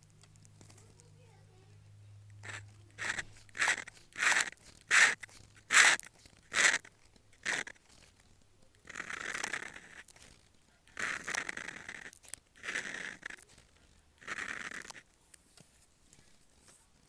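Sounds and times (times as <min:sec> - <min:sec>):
pen nib scratching on paper: 0:02.3 - 0:16.8.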